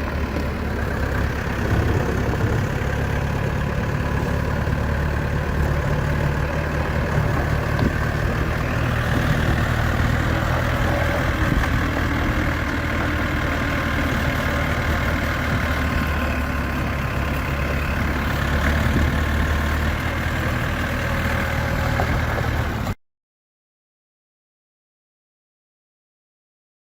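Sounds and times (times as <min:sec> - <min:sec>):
backhoe diesel engine running: 0:00.0 - 0:23.0.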